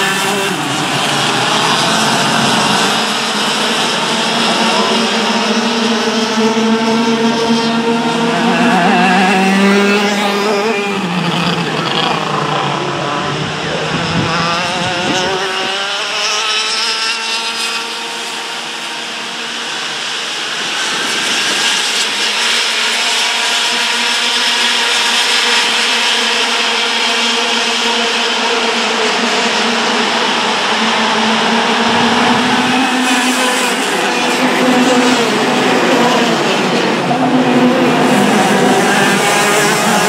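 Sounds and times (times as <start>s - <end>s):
kart engines buzzing: 0.0s - 40.0s.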